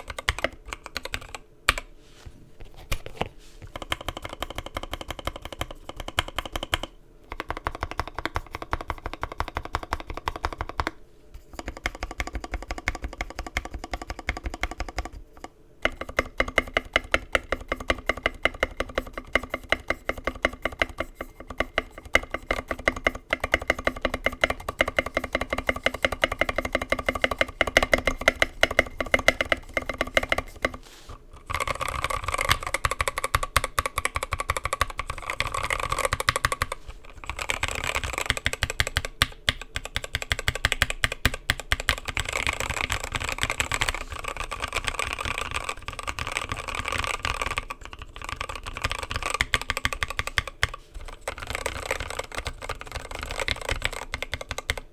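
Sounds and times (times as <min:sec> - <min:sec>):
fast mechanical keyboard typing: 0:00.0 - 0:01.8, 0:03.7 - 0:11.0, 0:11.6 - 0:15.2, 0:15.8 - 0:30.8, 0:31.4 - 0:54.9.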